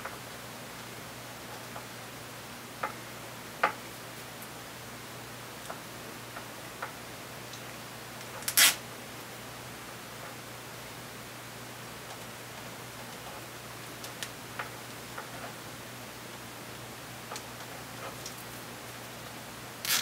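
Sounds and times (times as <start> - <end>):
steady hiss and low hum: 0.0 - 20.0.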